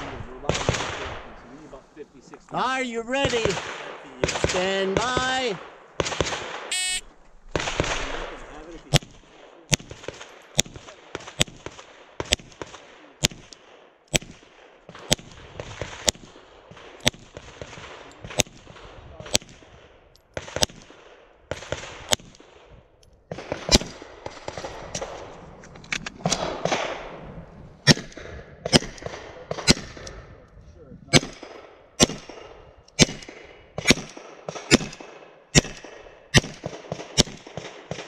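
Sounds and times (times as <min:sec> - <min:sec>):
pistol shots: 0:00.0 - 0:01.3, 0:03.2 - 0:06.7, 0:07.5 - 0:25.3, 0:26.2 - 0:27.2, 0:27.8 - 0:30.2, 0:31.1 - 0:38.0.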